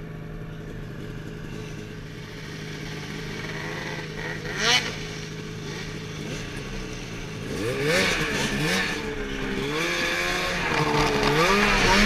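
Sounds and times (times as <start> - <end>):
snowmobile engine revving: 1.5 - 12.0.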